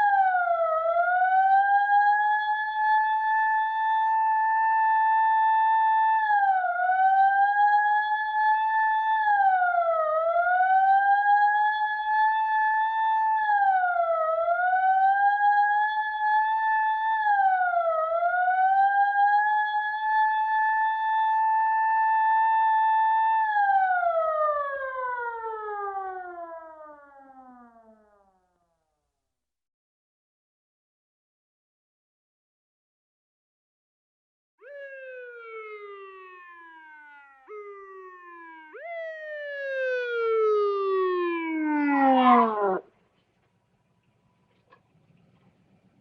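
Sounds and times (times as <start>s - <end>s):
siren: 0.0s - 28.8s, 34.6s - 42.9s.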